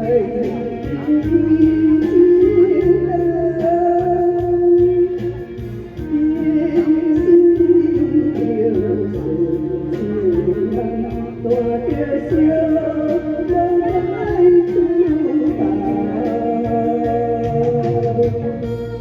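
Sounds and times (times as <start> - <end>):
instrumental accompaniment: 0.0 - 19.0
person singing a ballad: 0.0 - 19.0.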